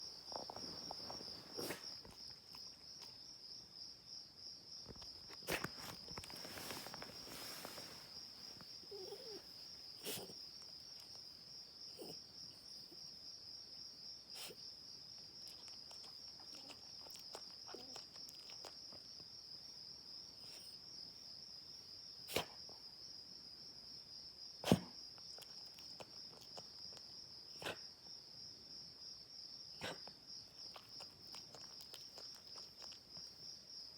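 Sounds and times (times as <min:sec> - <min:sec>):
insects chirring: 0:00.0 - 0:33.9.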